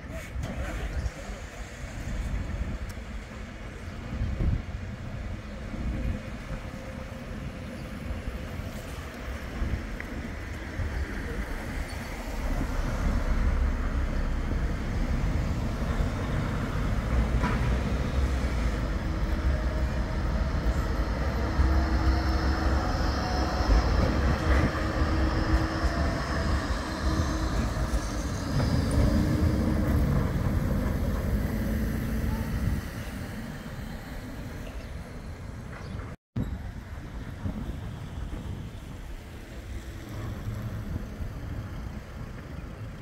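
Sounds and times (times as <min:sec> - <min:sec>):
tram wheels rumbling on rail: 0:00.0 - 0:43.0.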